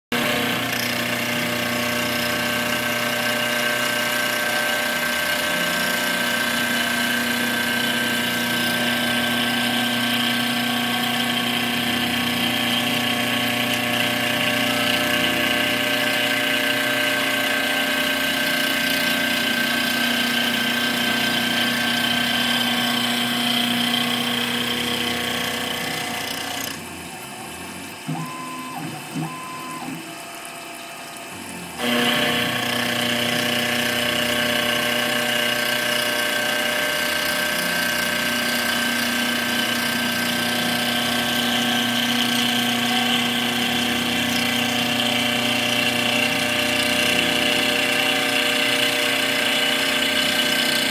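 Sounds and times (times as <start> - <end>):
grinding cutting noise: 0.1 - 50.9
milling machine spindle whine: 0.1 - 50.9.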